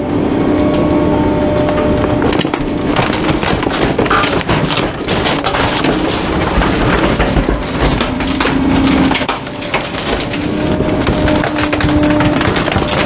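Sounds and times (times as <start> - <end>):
garbage truck compacting: 0.0 - 13.0.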